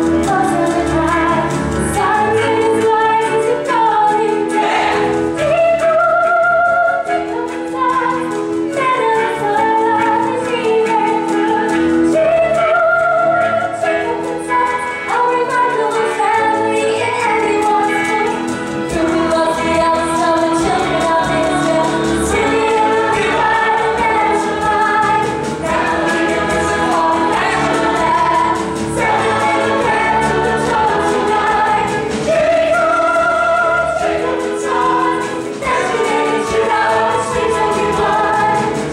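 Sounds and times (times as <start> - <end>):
chorus singing: 0.0 - 38.9
live band accompaniment: 0.0 - 38.9.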